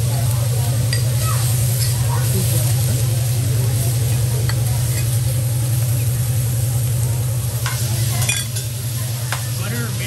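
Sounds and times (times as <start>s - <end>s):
food sizzling on griddle: 0.0s - 10.0s
steady low hum: 0.0s - 10.0s.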